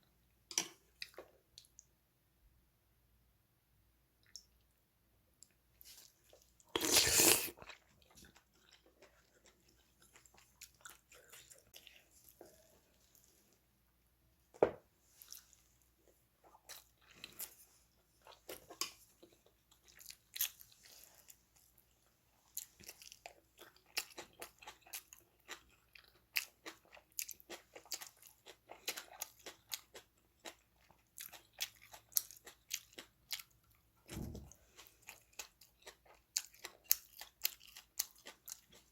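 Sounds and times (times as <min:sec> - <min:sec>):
person chewing and crunching: 0:05.4 - 0:13.6, 0:15.1 - 0:38.9.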